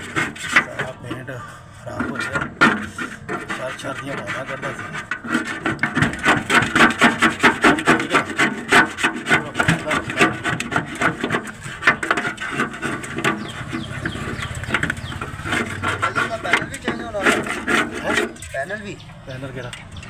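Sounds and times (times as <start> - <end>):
rubbing strokes on metal casing: 0.0 - 19.0.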